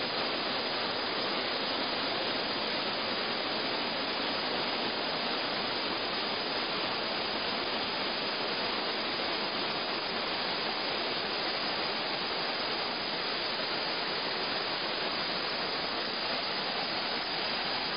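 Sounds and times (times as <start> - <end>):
river rapids rushing: 0.0 - 17.9.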